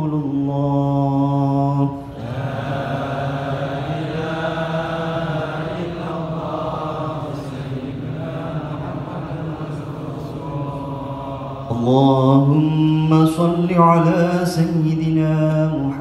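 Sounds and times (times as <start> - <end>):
congregation chanting: 0.0 - 16.0.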